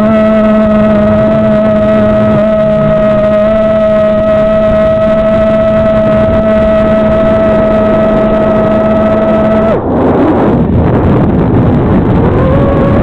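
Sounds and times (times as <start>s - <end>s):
drone motors whining: 0.0s - 9.8s, 12.1s - 13.0s.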